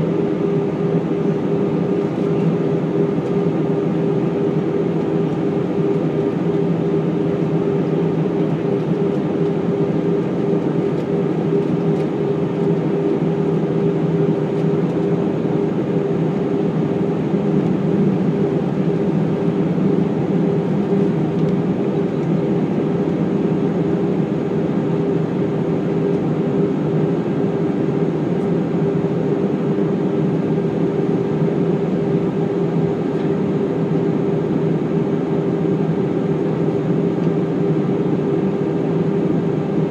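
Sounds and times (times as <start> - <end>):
airplane cabin engine noise: 0.0 - 39.9.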